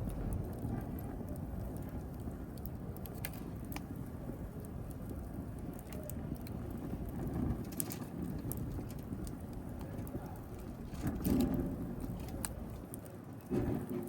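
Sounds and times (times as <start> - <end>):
fire crackling and popping: 0.0 - 14.0
rush of flames: 0.0 - 14.0.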